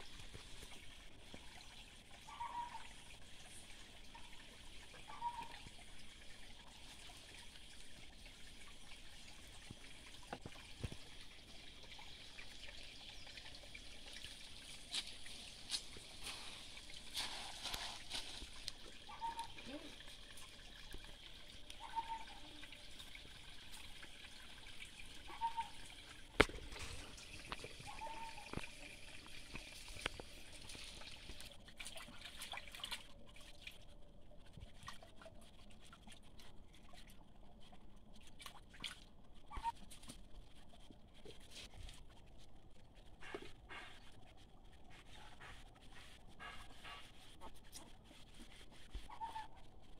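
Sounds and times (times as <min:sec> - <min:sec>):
stream water trickling: 0:00.0 - 0:49.9.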